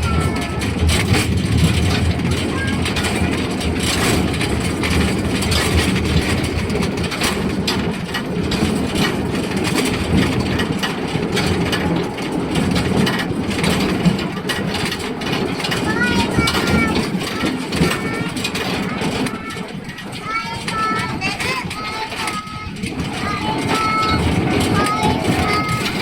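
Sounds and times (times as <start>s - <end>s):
train rumbling on track: 0.0s - 26.0s
wheels clicking and knocking: 0.0s - 26.0s.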